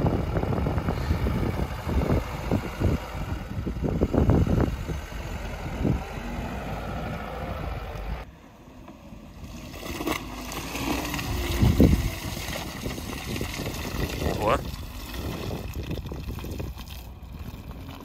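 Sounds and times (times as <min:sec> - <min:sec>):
car engine running under load: 0:00.0 - 0:18.0.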